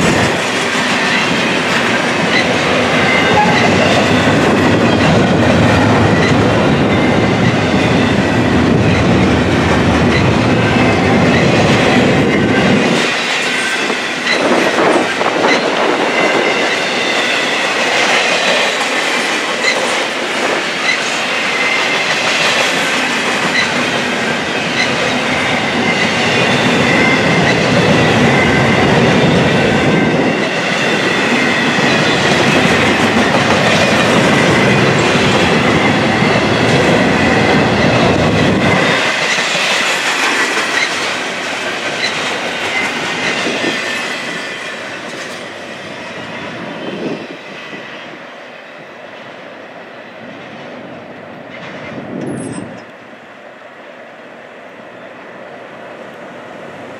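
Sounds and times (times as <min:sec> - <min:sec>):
train wheels clicking over rail joints: 0:00.0 - 0:45.7.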